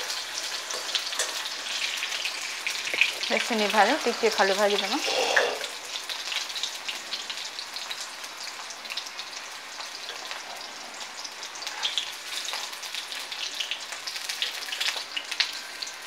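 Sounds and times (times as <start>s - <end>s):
oil crackles and pops: 0.0s - 16.0s
onions sizzling in hot oil: 0.0s - 16.0s.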